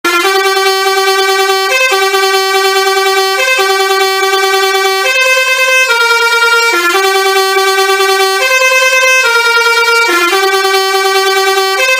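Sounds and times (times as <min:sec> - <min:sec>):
multi-tone bus horn playing a tune: 0:00.0 - 0:11.9.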